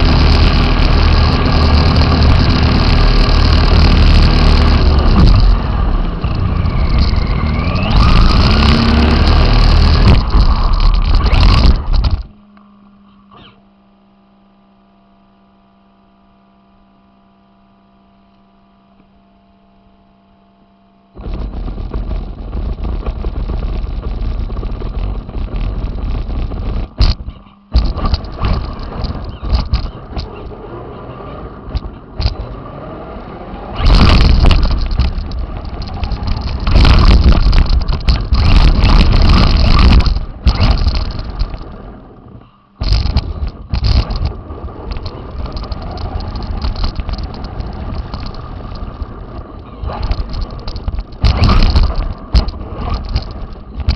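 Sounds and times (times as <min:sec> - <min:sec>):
radio-controlled car motor whine: 0:00.0 - 0:53.9.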